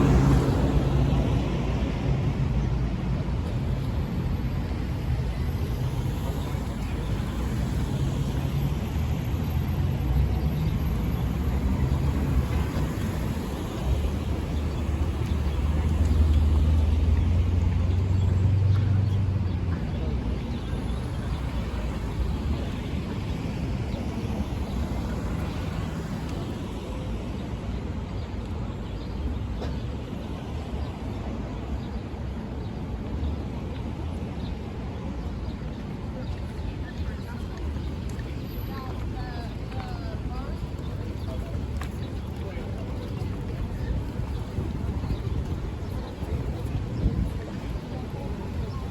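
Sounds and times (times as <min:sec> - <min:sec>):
passing vehicles rumble: 0:00.0 - 0:48.9.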